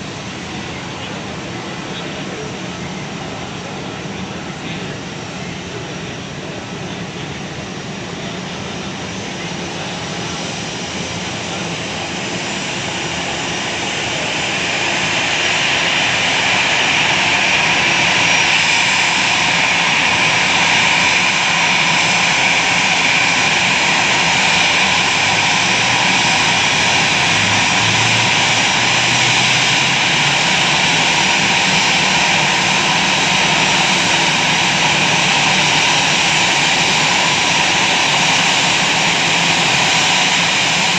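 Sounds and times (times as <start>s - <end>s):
jet engines roaring with whine: 0.0s - 40.9s.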